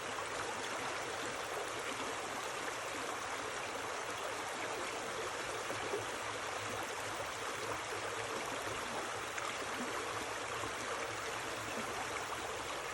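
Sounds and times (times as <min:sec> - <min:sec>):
stream flowing over rocks: 0:00.0 - 0:12.9.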